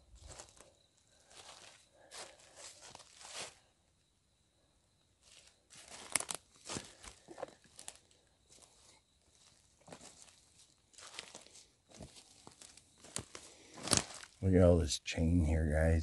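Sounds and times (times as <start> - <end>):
footsteps crunching on forest floor: 0.0 - 3.7, 5.2 - 14.6.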